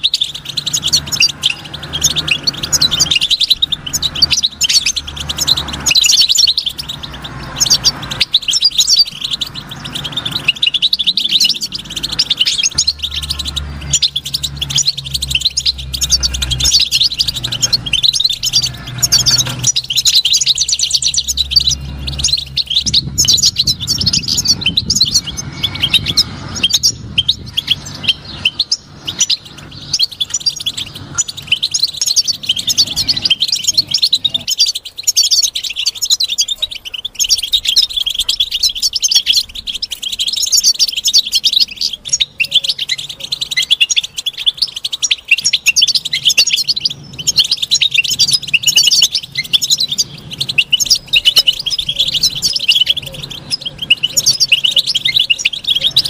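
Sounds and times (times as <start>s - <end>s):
bird twittering and chirping: 0.0s - 56.0s.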